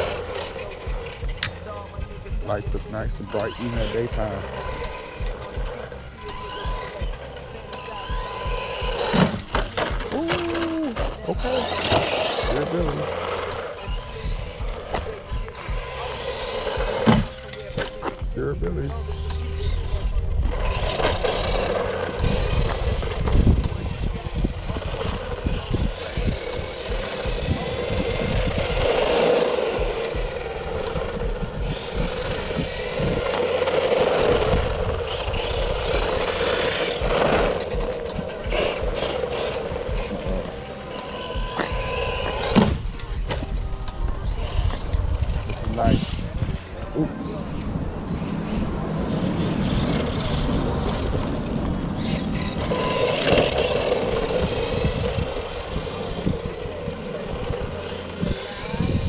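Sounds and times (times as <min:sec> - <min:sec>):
electric toy car motor whining: 0:00.0 - 0:59.0
wind rumbling on microphone: 0:00.0 - 0:59.0.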